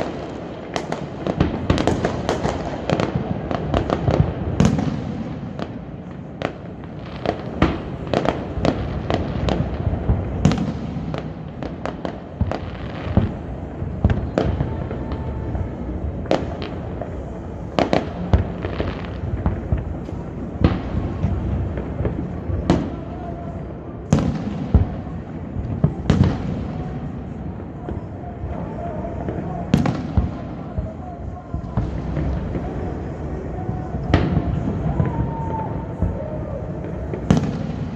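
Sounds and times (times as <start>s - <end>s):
fireworks booming and crackling: 0.0s - 37.9s.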